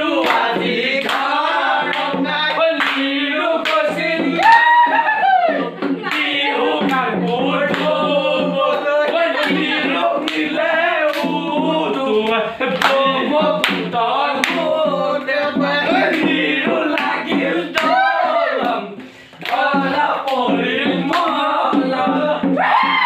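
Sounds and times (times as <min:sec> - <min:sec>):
group singing folk song: 0:00.0 - 0:23.0
hand claps: 0:00.2 - 0:05.1, 0:05.8 - 0:18.0, 0:18.6 - 0:22.2.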